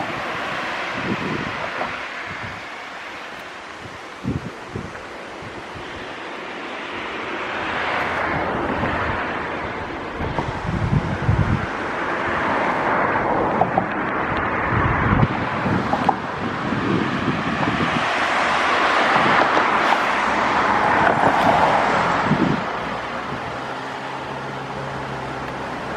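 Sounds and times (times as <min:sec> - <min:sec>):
vehicle passing: 0:00.0 - 0:25.9
waterfall rushing: 0:00.0 - 0:25.9
wind buffeting microphone: 0:00.0 - 0:25.9.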